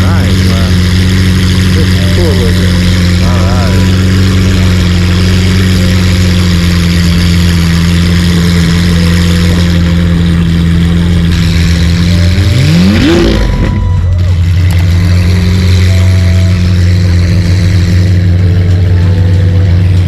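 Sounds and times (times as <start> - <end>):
car engine idling: 0.0 - 20.0
engine rev: 0.0 - 20.0.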